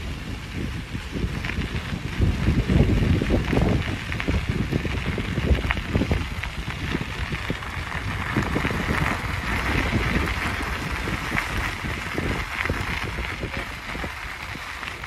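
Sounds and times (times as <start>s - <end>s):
bike rattling clicks and crackles: 0.0s - 15.0s
wind buffeting microphone: 0.0s - 15.0s.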